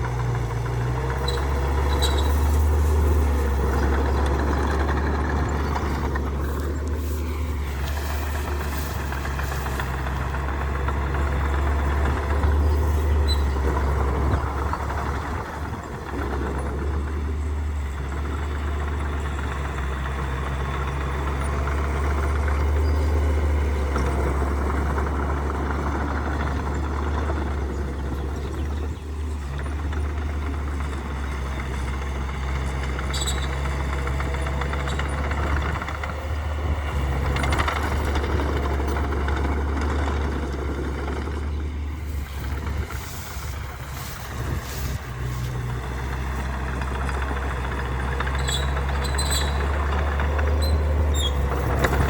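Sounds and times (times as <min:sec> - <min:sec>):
diesel machinery engine drone: 0:00.0 - 0:52.0.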